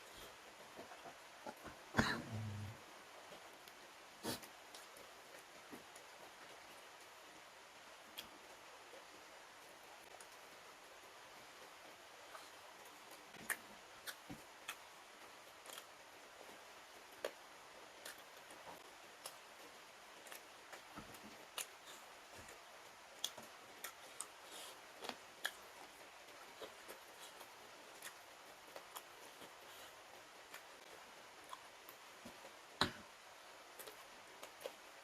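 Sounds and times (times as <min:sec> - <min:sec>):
steady low hiss: 0:00.0 - 0:35.0.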